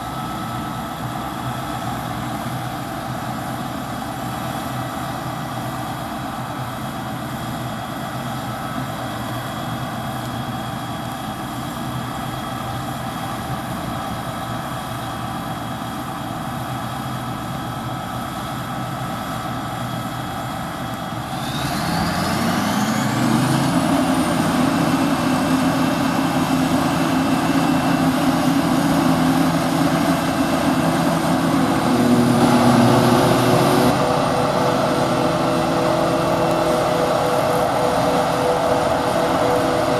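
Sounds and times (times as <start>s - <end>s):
engine whine rising in pitch: 0.0s - 15.8s, 19.1s - 39.9s
diesel machinery running: 0.0s - 39.9s.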